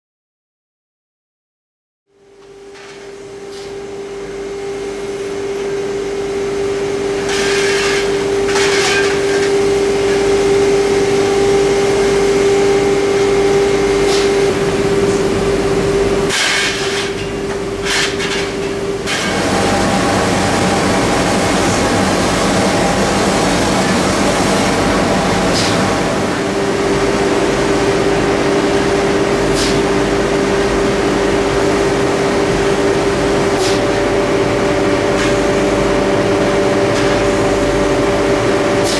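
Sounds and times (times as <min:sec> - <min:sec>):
machinery hum: 0:02.1 - 0:38.9.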